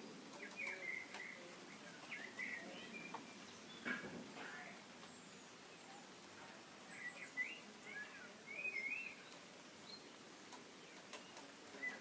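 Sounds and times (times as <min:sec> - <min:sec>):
faint steady hiss: 0:00.0 - 0:12.0
songbird singing: 0:00.0 - 0:12.0.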